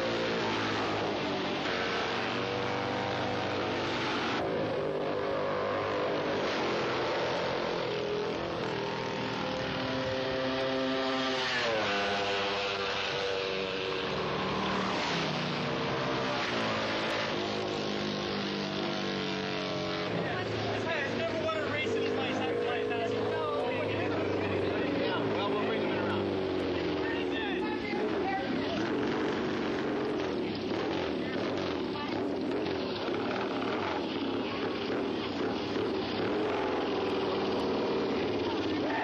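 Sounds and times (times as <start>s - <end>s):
racing motorcycles passing: 0.0s - 39.0s.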